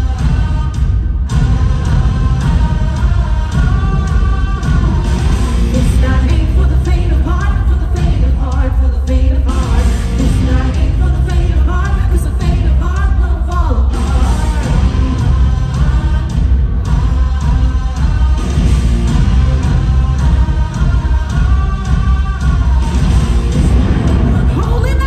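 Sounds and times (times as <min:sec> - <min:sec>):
loud rock music: 0:00.0 - 0:25.0
person singing: 0:00.0 - 0:25.0.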